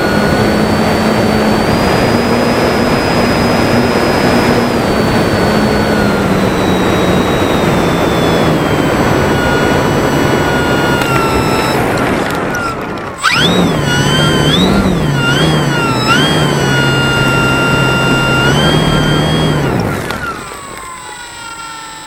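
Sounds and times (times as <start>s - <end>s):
wind noise: 0.0s - 21.4s
model plane motor whining: 0.0s - 22.0s.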